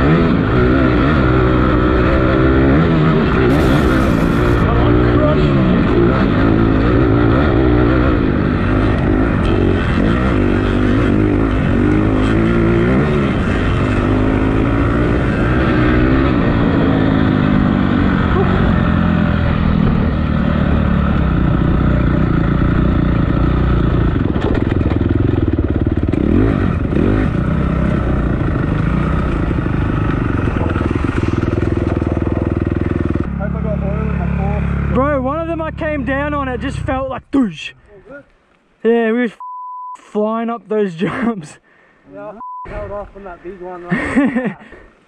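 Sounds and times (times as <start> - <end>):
dirt bike engine revving: 0.0 - 37.1.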